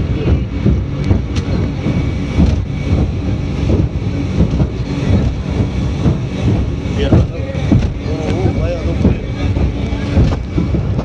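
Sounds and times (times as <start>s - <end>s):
speedboat engine: 0.0s - 11.0s
wind buffeting microphone: 0.0s - 11.0s.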